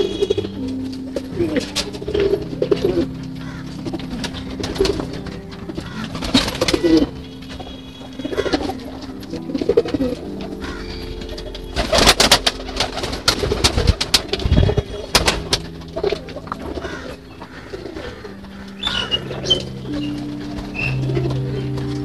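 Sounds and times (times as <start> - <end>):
pigeons cooing: 0.0 - 22.0
wings flapping: 1.6 - 22.0.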